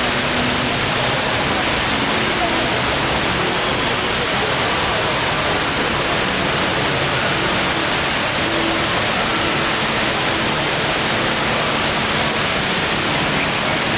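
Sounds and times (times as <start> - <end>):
waterfall pouring into pool: 0.0 - 13.9.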